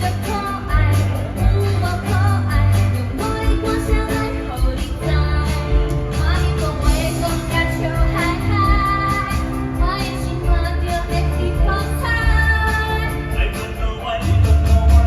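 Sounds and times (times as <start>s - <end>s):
band with bass and beat: 0.0s - 15.0s.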